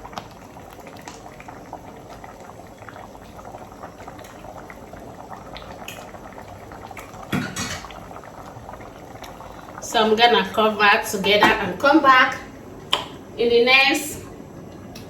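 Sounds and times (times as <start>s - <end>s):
soup boiling and bubbling: 0.0s - 15.0s.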